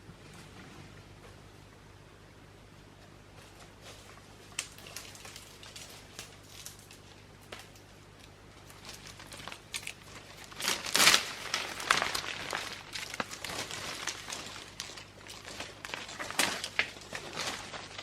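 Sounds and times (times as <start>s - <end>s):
rustling and crackling: 3.3s - 18.0s.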